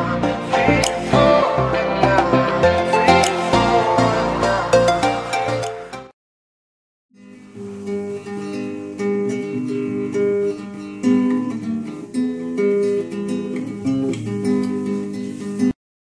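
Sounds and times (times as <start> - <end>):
acoustic guitar music: 0.0 - 6.1, 7.2 - 15.8.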